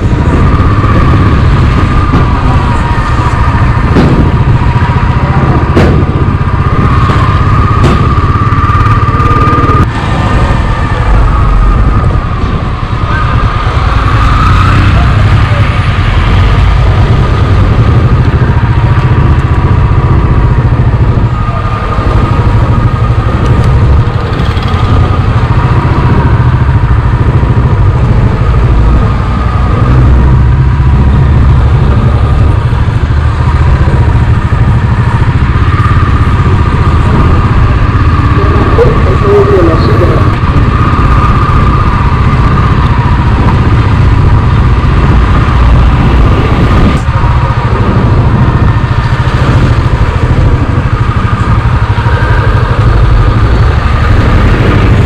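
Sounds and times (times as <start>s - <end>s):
motorcycle engine rumbling: 0.0s - 55.0s.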